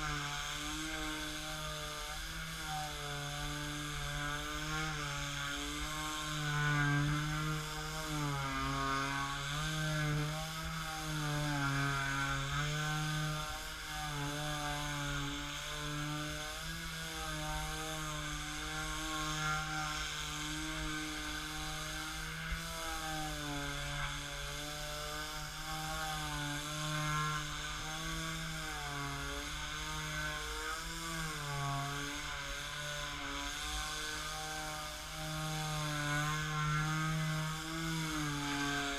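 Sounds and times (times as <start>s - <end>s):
detail sander sanding wood: 0.0s - 38.9s.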